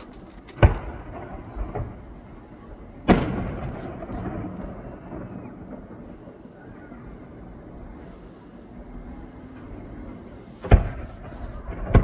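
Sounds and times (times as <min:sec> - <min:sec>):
fireworks pops and bangs: 0:00.0 - 0:08.0, 0:09.5 - 0:12.0.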